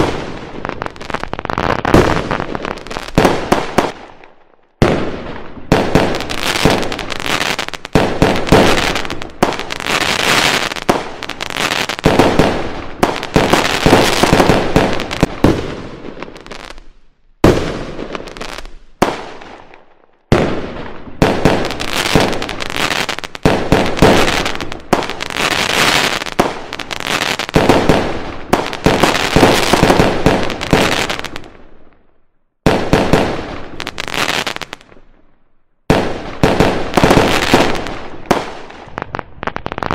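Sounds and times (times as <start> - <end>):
fireworks bangs with crackling: 0.0 - 31.8, 32.6 - 35.1, 35.8 - 39.9.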